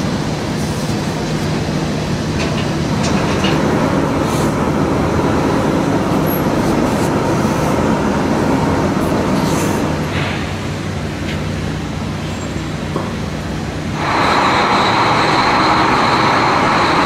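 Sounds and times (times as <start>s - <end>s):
machinery drone with hiss: 0.0s - 17.0s.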